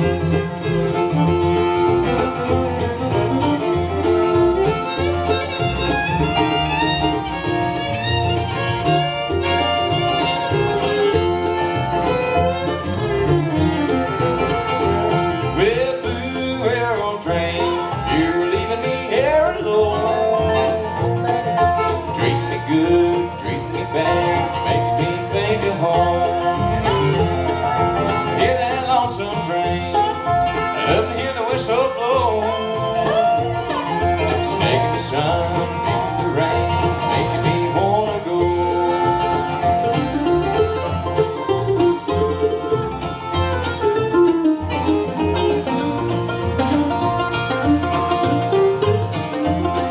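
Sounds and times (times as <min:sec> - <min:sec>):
bluegrass band playing: 0:00.0 - 0:49.9.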